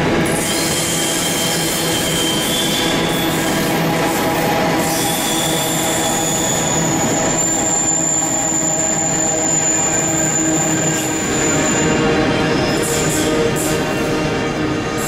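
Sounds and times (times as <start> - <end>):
train wheels rumbling: 0.0 - 15.0
high-pitched wheel squeal: 0.4 - 13.4.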